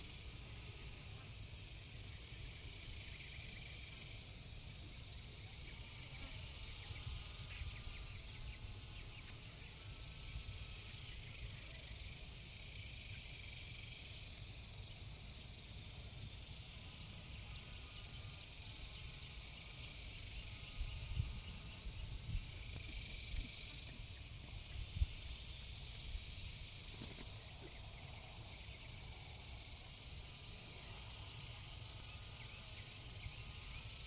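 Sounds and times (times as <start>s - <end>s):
high-pitched insect trill: 0.0s - 34.0s.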